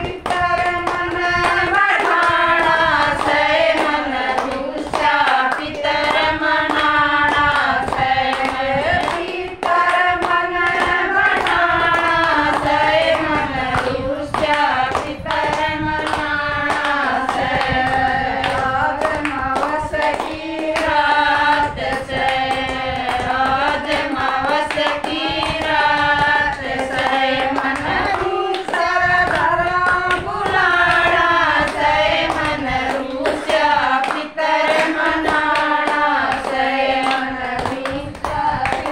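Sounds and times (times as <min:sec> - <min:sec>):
hand clapping: 0:00.0 - 0:38.9
women singing in unison: 0:00.0 - 0:38.9.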